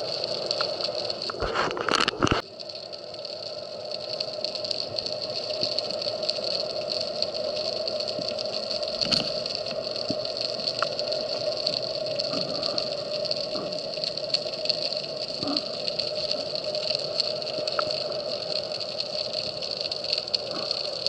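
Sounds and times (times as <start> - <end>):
underwater hiss with hum: 0.0 - 21.0.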